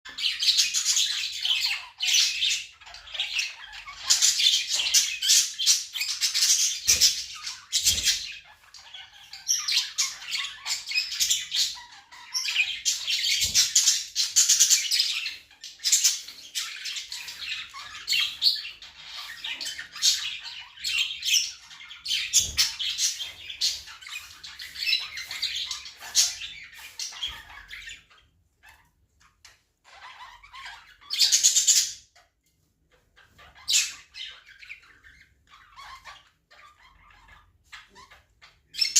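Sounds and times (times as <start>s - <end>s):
pet birds chattering and squawking: 0.1s - 38.9s.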